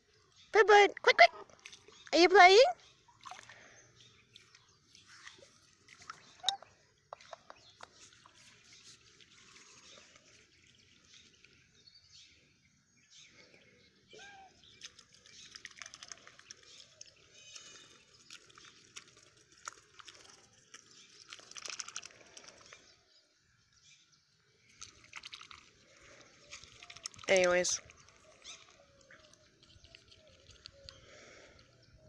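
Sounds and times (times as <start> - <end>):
water dripping and splashing: 0.6 - 11.8, 14.6 - 22.9, 24.6 - 31.8
soft bird chirps: 1.7 - 19.4, 20.0 - 32.0.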